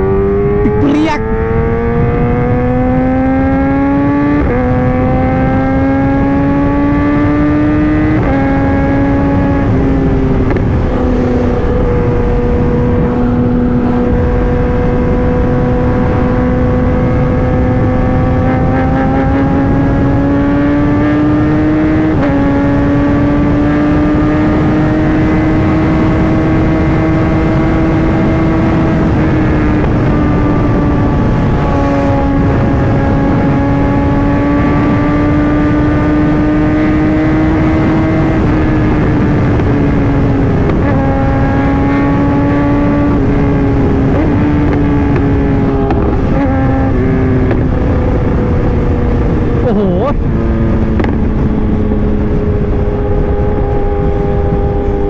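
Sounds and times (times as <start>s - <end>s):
motorcycle engine shifting gears: 0.0s - 55.0s
wind noise rushing: 0.0s - 55.0s.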